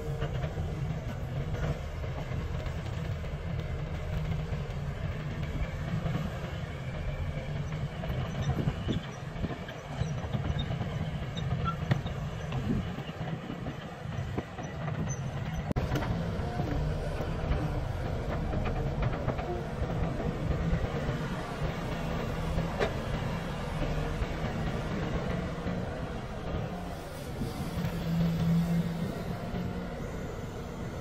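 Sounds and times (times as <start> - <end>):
excavator diesel engines rumbling: 0.0 - 31.0.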